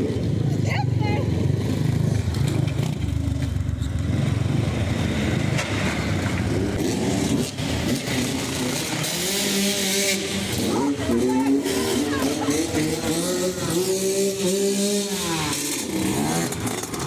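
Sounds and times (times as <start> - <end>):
dirt bike engine revving: 1.0 - 17.0.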